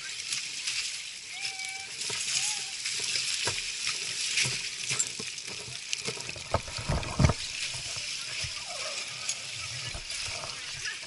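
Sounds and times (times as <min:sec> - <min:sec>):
ice and slush crackling: 0:00.8 - 0:11.0.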